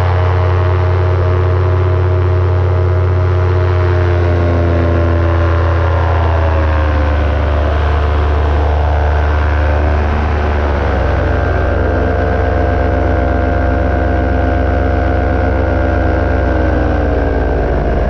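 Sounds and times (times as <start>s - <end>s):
paramotor engine droning: 0.0s - 18.0s.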